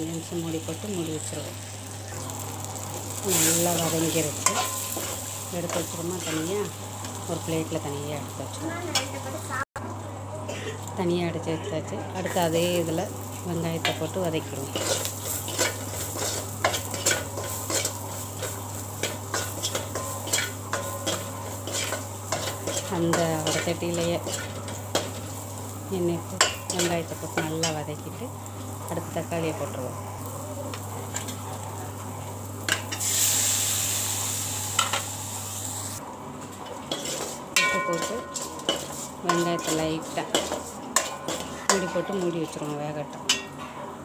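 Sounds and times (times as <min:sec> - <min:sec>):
oil sizzling: 0:00.0 - 0:10.2, 0:12.1 - 0:43.6.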